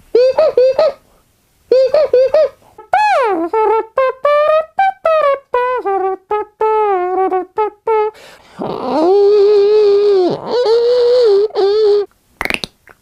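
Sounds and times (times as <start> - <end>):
man imitating trumpet with voice: 0.1 - 1.0, 1.7 - 12.1.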